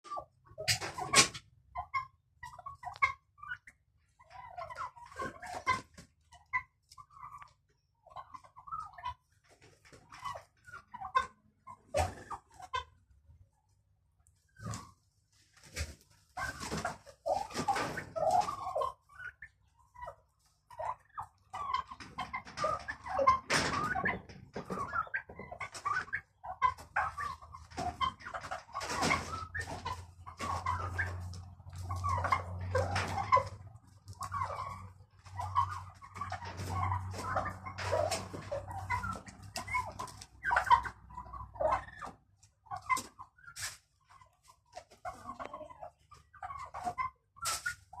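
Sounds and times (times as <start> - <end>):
poultry clucking: 0.0 - 48.0.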